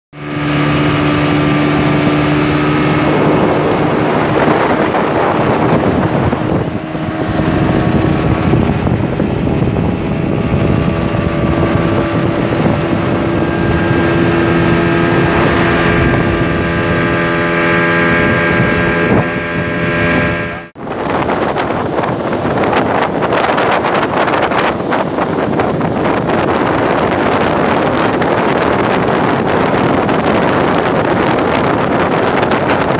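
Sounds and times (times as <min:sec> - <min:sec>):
speedboat engine running: 0:00.1 - 0:32.9
wind: 0:00.1 - 0:32.9
rushing water: 0:00.2 - 0:32.9.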